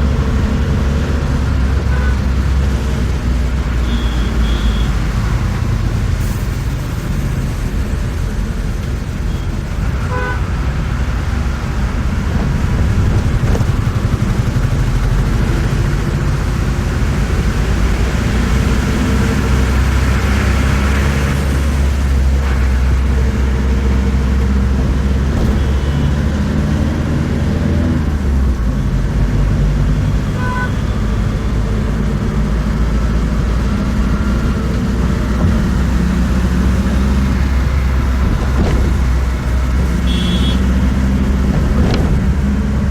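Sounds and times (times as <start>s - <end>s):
bus engine drone: 0.0s - 42.9s
traffic noise: 0.0s - 42.9s.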